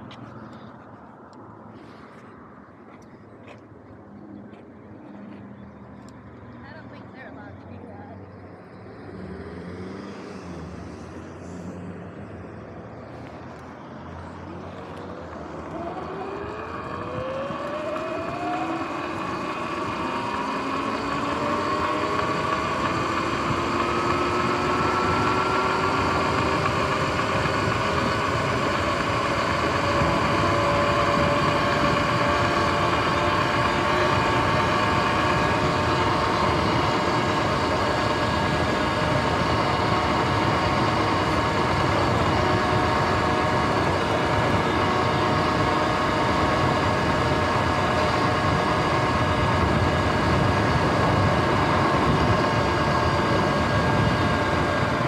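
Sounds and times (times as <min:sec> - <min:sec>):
road and wind noise: 0:00.0 - 0:55.0
electric motor whine: 0:08.8 - 0:55.0.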